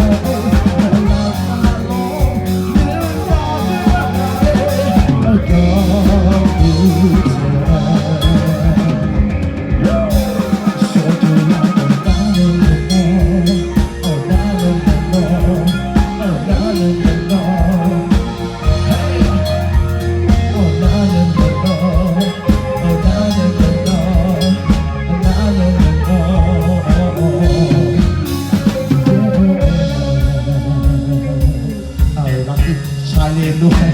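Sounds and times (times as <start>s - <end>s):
bass guitar: 0.0s - 33.9s
live rock band playing: 0.0s - 33.9s.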